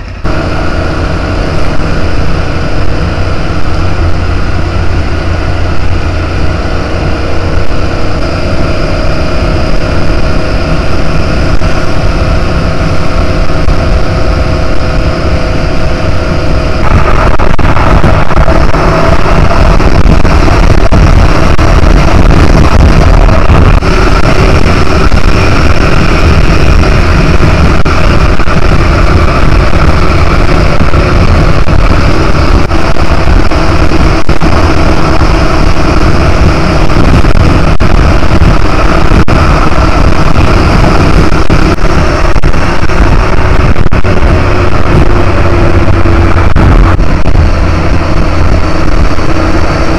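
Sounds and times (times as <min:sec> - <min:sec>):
motorcycle engine at speed: 0:00.0 - 0:49.9
wind rush on microphone: 0:00.0 - 0:49.9.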